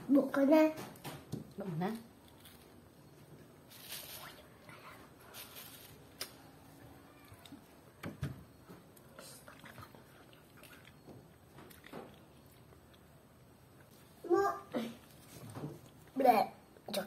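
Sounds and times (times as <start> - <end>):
fruit being peeled by hand: 0.7 - 16.2.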